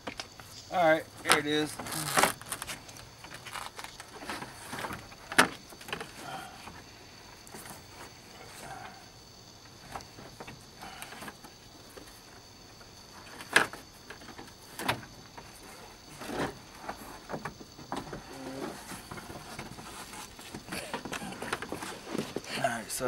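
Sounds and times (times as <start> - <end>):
rustles: 0.0 - 23.0.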